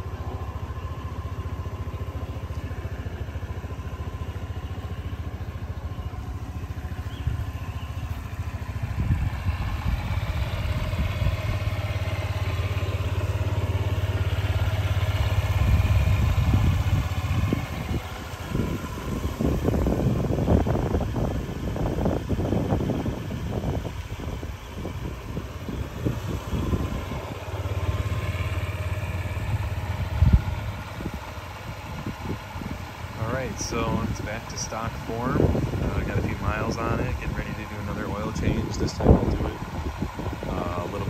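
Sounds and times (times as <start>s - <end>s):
scooter engine idling: 0.0s - 41.0s.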